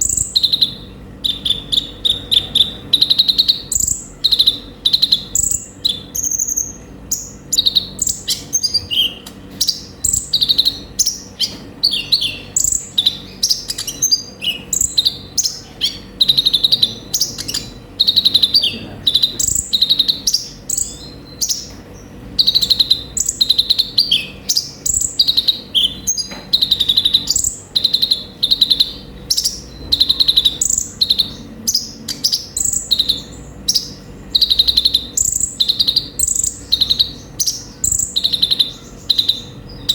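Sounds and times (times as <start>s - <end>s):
bird chirping and trilling: 0.0s - 39.9s
faint steady hum: 0.0s - 39.9s.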